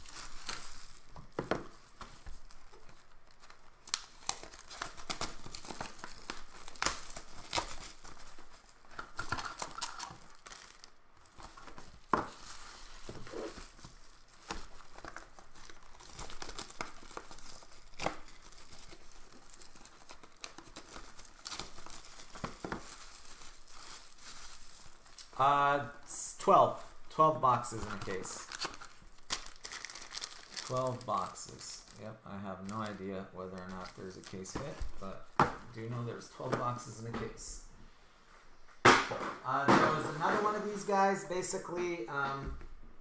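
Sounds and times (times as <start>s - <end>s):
plastic wrapping crinkling and tearing: 0.0s - 25.5s, 26.1s - 36.9s.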